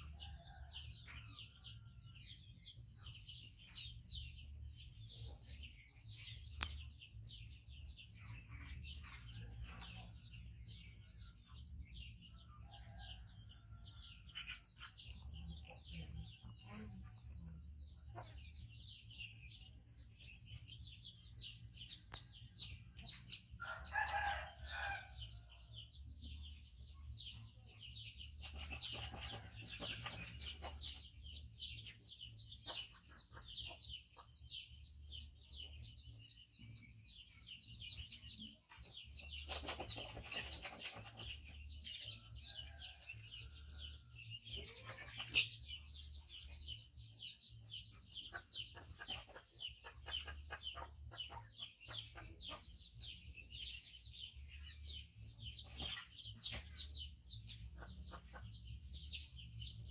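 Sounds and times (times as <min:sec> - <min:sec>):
chickens: 0:00.0 - 0:59.9
birds chirping: 0:02.2 - 0:59.9.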